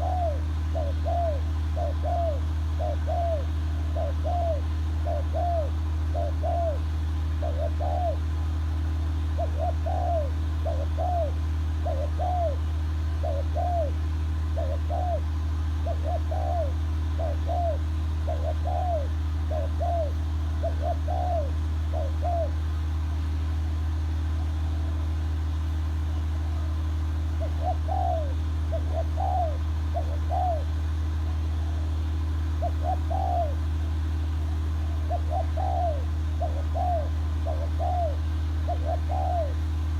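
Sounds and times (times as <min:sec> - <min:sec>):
bird calling: 0:00.0 - 0:08.3, 0:09.1 - 0:39.9.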